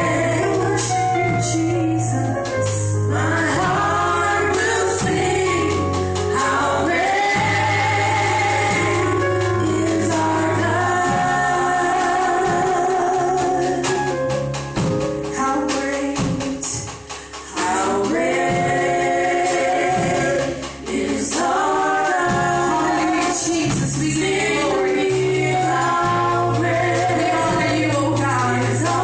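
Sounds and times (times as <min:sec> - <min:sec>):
voices singing together: 0:00.0 - 0:14.3, 0:17.4 - 0:29.0
instrumental accompaniment: 0:00.0 - 0:29.0.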